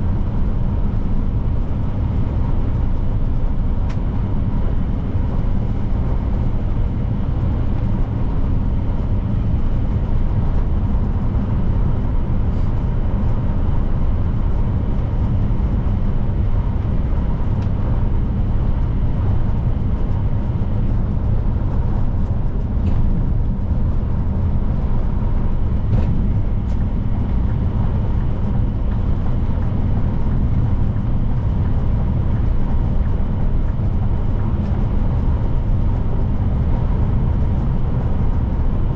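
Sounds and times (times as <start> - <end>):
truck engine drone: 0.0 - 38.9
road noise: 3.7 - 38.9.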